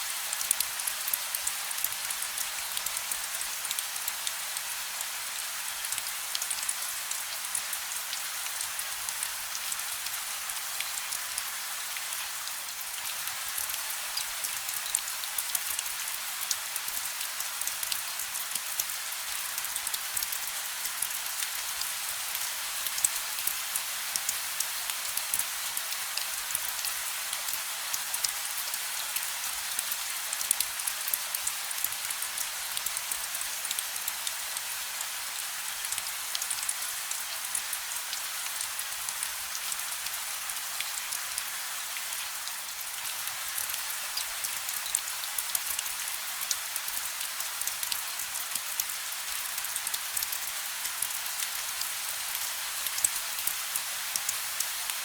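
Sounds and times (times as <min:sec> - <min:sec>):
gentle rain hissing: 0:00.0 - 0:55.0
raindrops pattering on a surface: 0:00.1 - 0:55.0.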